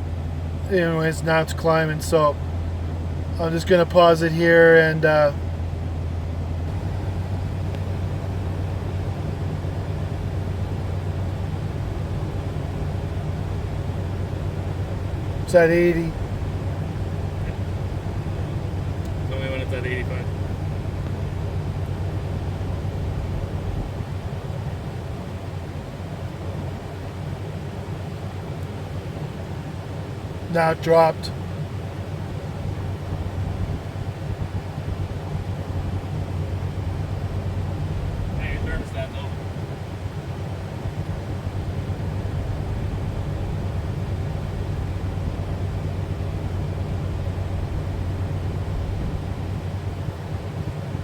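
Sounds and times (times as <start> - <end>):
van engine idling: 0.0 - 51.0.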